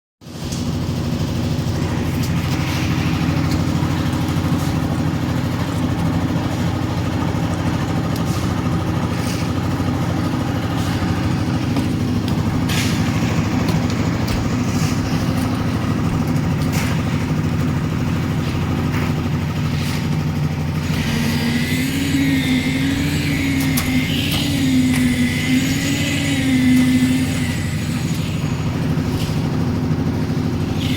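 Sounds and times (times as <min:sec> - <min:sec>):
machine engine running steadily: 0:00.2 - 0:30.9.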